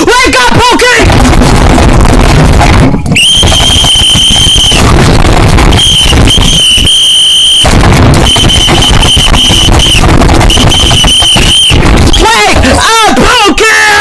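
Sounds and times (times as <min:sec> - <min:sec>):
distorted high-pitched squeal: 0:01.1 - 0:13.2.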